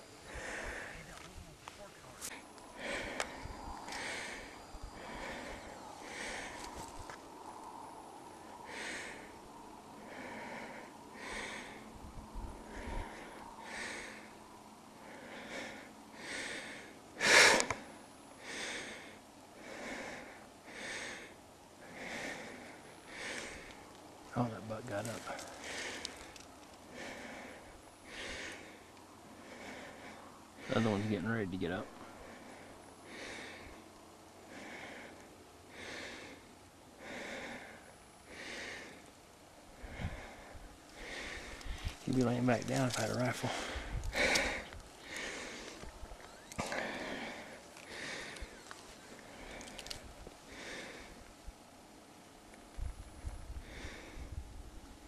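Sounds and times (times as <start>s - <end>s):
person breathing: 0.0s - 1.3s, 2.2s - 23.9s, 25.0s - 31.1s, 32.0s - 39.1s, 39.7s - 42.1s, 42.9s - 51.3s, 53.6s - 54.4s.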